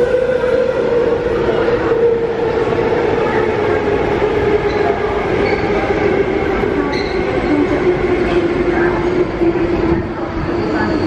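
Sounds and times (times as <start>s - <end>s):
train wheel-on-rail rumble: 0.0s - 11.0s.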